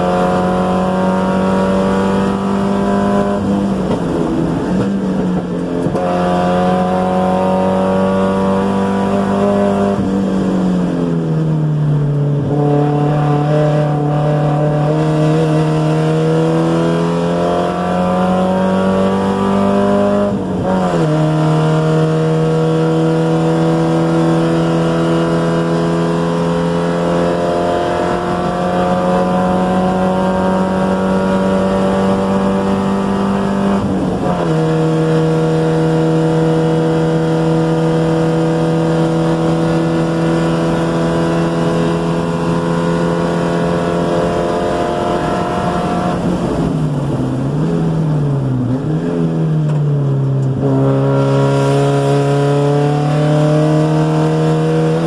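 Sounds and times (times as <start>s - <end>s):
car engine revving under load: 0.0s - 55.0s.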